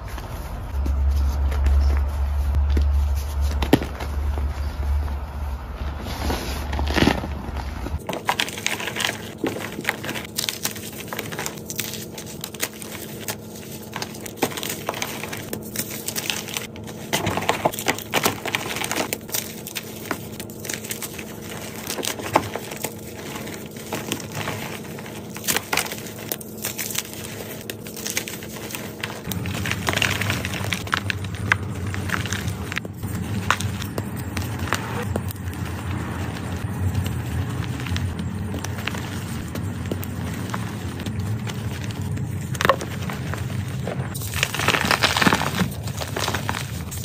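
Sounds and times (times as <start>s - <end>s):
chalk crunching and crackling: 0.0s - 47.0s.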